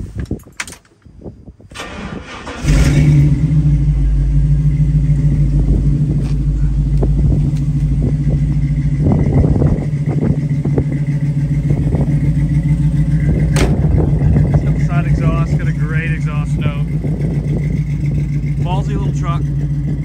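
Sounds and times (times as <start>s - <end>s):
engine idling: 1.8s - 20.0s.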